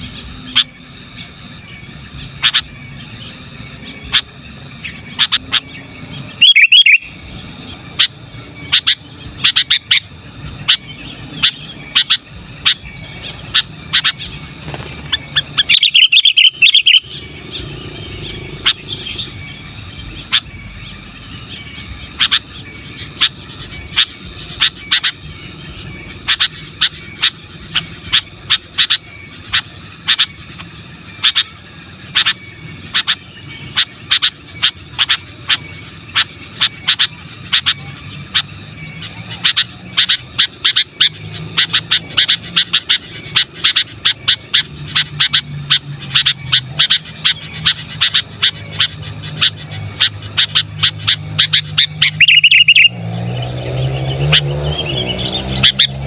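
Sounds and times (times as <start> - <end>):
bird calling sharp notes: 0.0 - 56.0.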